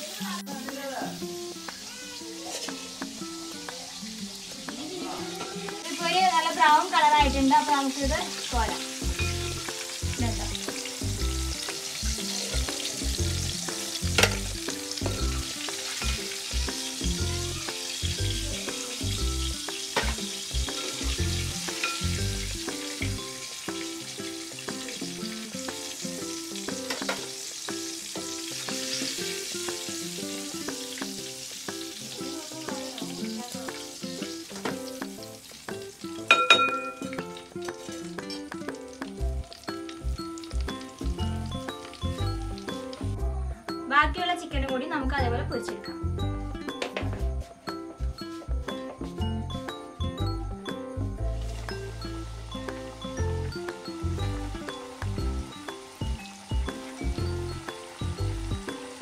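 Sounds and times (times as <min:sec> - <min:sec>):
chicken deep-frying in oil: 0:00.0 - 0:43.3, 0:47.0 - 0:59.0
background music with a beat: 0:02.6 - 0:04.9, 0:08.1 - 0:59.0.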